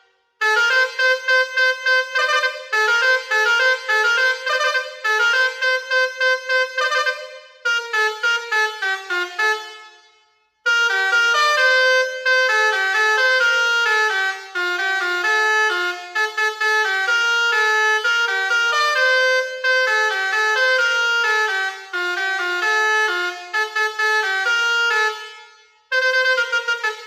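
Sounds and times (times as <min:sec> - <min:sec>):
air horn playing a melody: 0:00.4 - 0:27.0.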